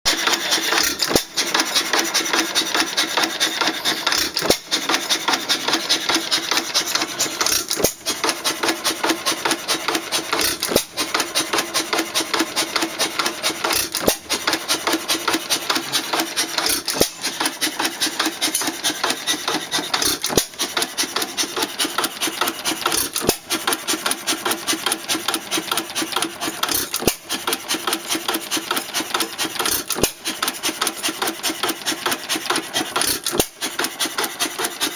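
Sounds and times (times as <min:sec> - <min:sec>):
old engine clattering: 0:00.1 - 0:34.9.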